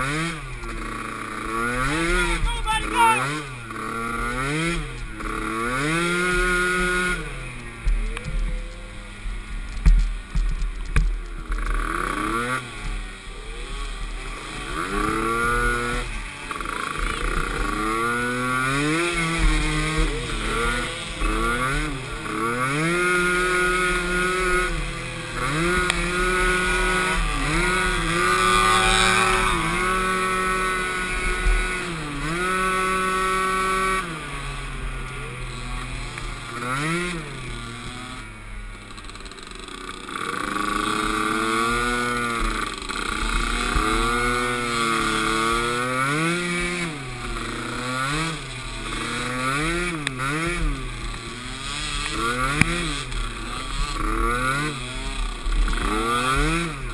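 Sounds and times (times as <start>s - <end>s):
small atv engines racing: 0.0s - 56.9s.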